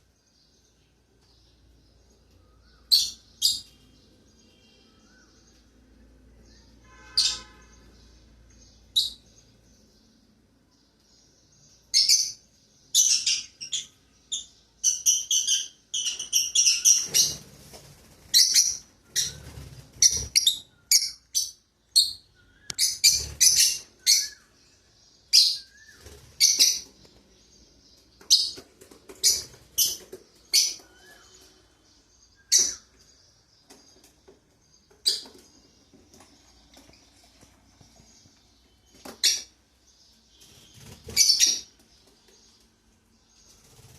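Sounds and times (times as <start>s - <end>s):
lovebirds chirping: 0.0s - 43.9s.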